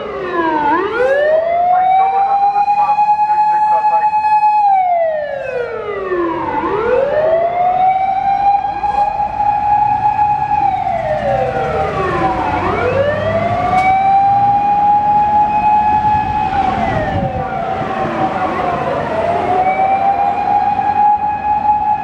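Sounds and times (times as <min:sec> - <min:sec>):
engine and road rumble: 0:00.0 - 0:22.0
fire engine siren wailing: 0:00.0 - 0:22.0.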